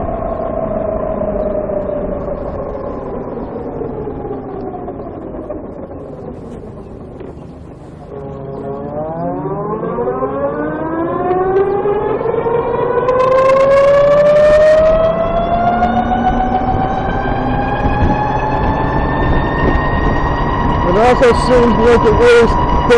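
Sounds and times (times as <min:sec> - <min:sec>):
electric scooter drivetrain whine: 0:00.0 - 0:22.9.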